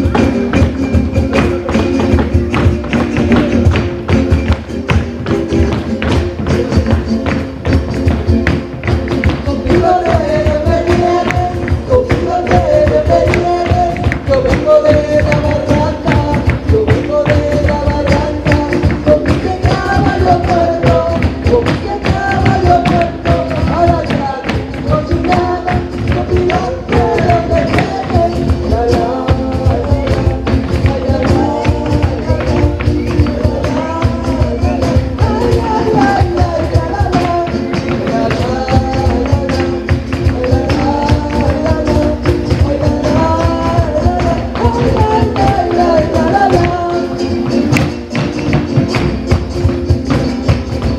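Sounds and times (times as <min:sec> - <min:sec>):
fast percussion beat: 0:00.0 - 0:50.9
live band playing: 0:00.0 - 0:50.9
person singing: 0:00.0 - 0:50.9.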